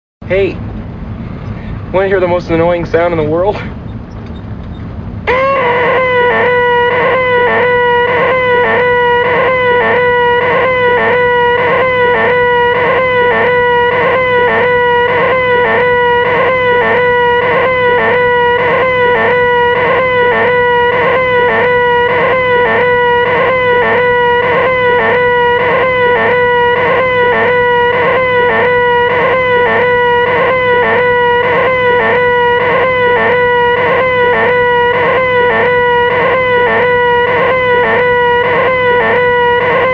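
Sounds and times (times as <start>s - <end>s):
person's nasal high-pitched shriek: 5.3s - 39.9s.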